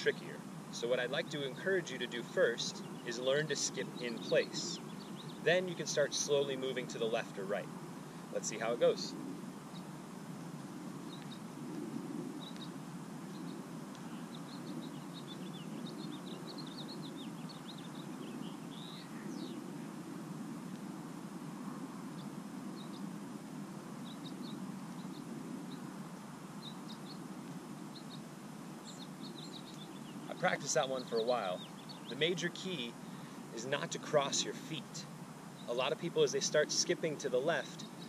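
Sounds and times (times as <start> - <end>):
small birds chirping: 0.0 - 38.0
steady low background noise: 0.0 - 38.0.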